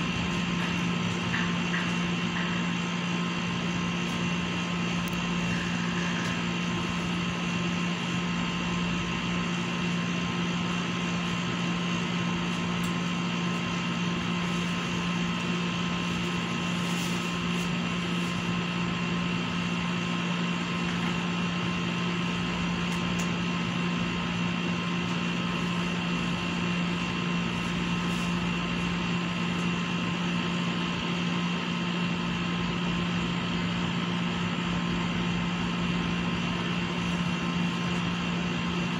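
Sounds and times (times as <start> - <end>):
machine hum with low drone: 0.0 - 38.9.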